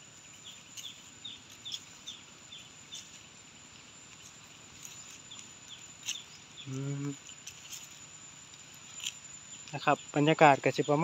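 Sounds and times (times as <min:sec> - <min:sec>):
bird chirping: 0:00.0 - 0:11.0
dry leaves crackling: 0:00.0 - 0:11.0
high-pitched insect drone: 0:00.0 - 0:11.0.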